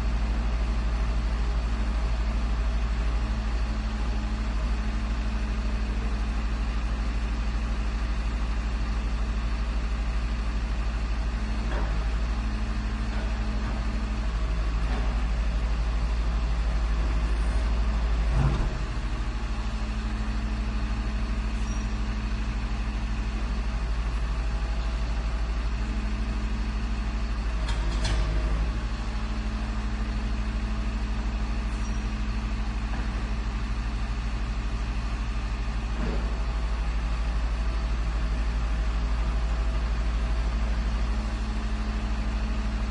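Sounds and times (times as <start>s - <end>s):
garbage truck engine running: 0.0s - 42.9s.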